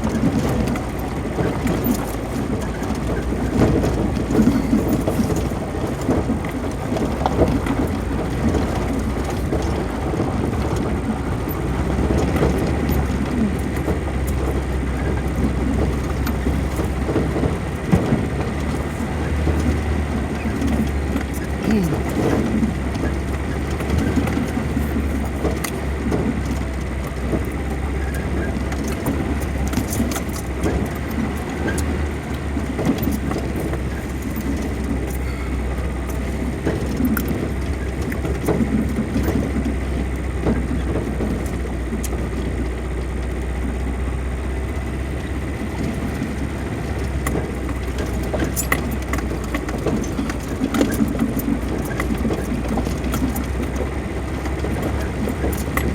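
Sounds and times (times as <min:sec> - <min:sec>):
engine and tyre rumble: 0:00.0 - 0:55.9
vehicle rattles and knocks: 0:00.0 - 0:55.9.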